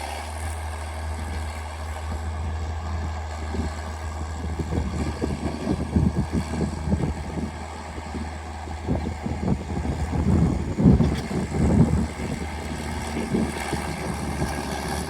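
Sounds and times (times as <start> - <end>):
diesel tractor engine droning: 0.0 - 15.0
wind buffeting microphone: 0.6 - 15.0.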